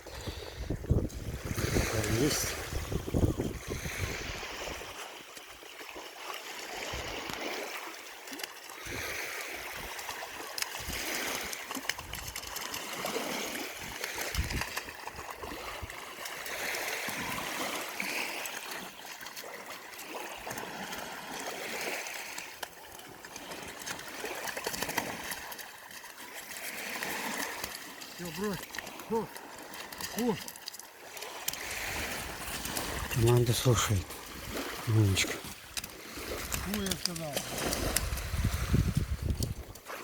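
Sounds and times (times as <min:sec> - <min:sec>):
running water rushing: 0:00.0 - 0:40.0
water splashes: 0:00.0 - 0:40.0.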